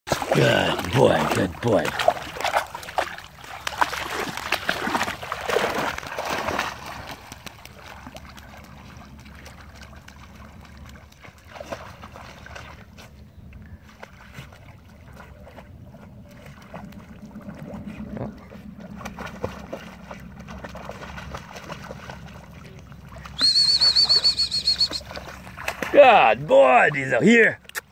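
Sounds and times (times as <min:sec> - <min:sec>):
puppy splashing through water: 0:00.1 - 0:27.9.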